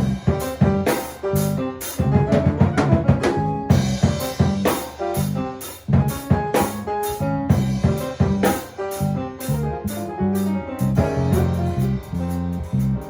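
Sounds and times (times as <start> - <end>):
drum kit hits: 0.0 - 13.0
latin jazz band playing: 0.0 - 13.0.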